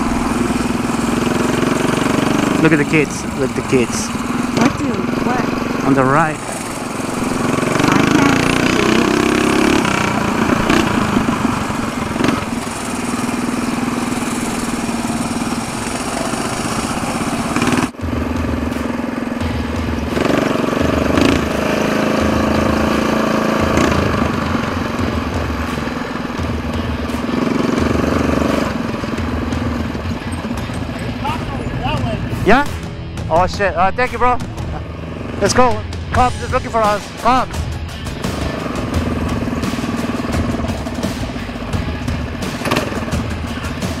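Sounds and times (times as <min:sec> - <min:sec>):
mini bike engine running: 0:00.0 - 0:32.7, 0:38.2 - 0:44.0.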